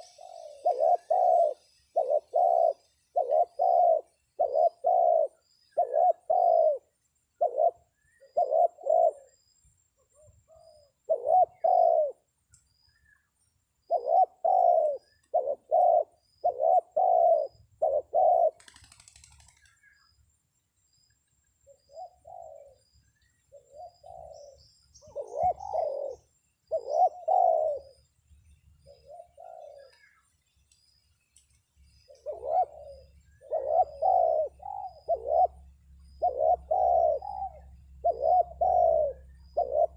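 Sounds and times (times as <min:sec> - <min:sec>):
doves cooing: 0:00.0 - 0:12.3, 0:13.9 - 0:19.9, 0:21.7 - 0:28.1, 0:28.8 - 0:30.2, 0:32.1 - 0:39.9.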